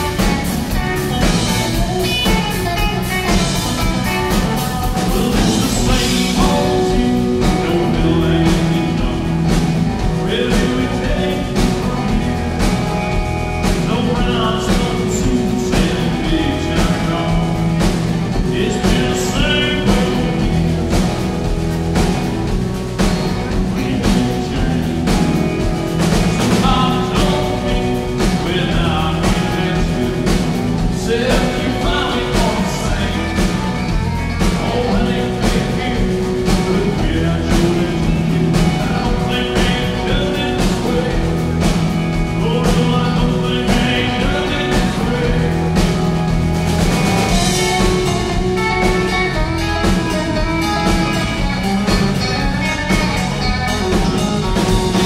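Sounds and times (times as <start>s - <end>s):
drum kit steady beat: 0.0s - 55.0s
electric guitar: 0.0s - 55.0s.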